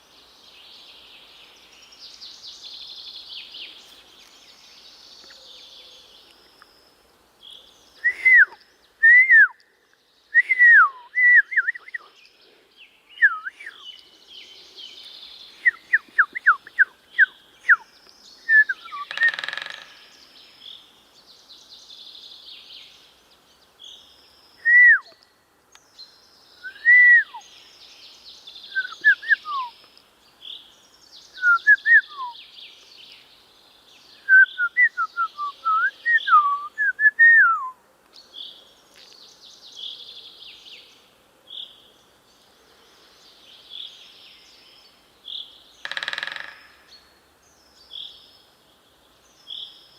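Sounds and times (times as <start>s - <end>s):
background bird chorus: 0.0s - 49.9s.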